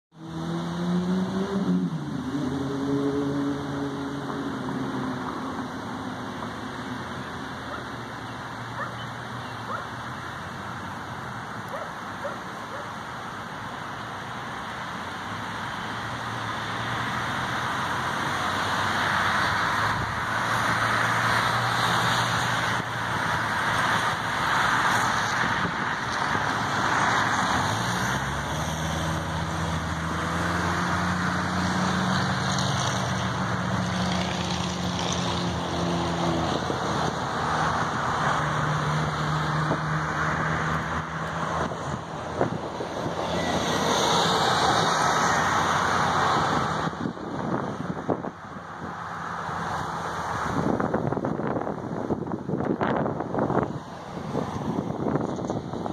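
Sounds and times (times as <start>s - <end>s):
tyre noise of passing cars: 0.1s - 55.9s
vehicle engine revving nearby: 0.1s - 55.9s.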